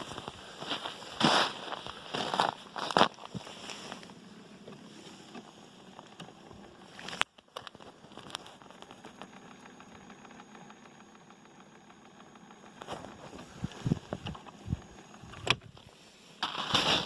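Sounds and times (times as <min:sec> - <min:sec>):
small motor running: 0:00.0 - 0:16.2.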